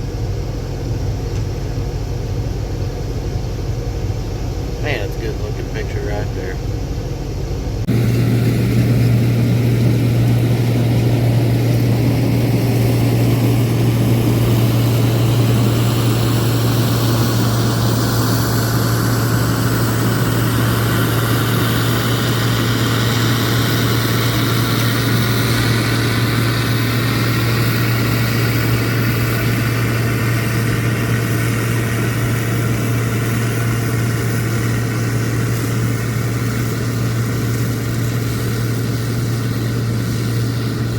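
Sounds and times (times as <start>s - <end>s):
farm machinery engine running: 0.0s - 40.9s
high engine whine: 0.0s - 40.9s.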